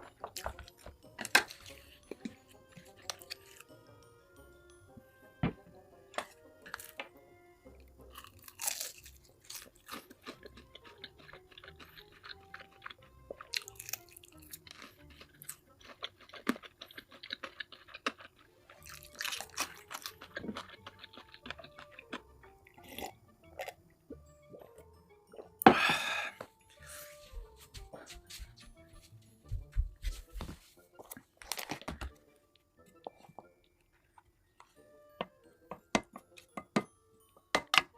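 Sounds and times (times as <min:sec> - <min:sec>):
person chewing and crunching food: 0:00.0 - 0:04.0, 0:06.2 - 0:34.9.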